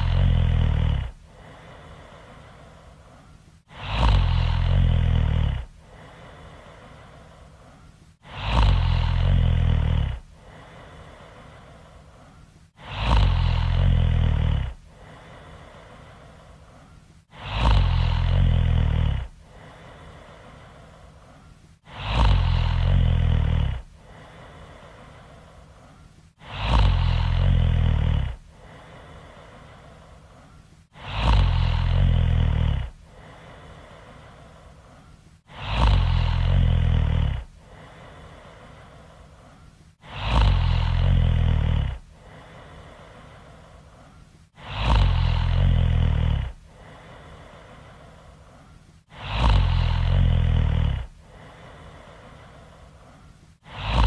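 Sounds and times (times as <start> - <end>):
loud snoring: 0.0 - 39.3, 40.0 - 54.0
faint steady hiss: 0.0 - 54.0.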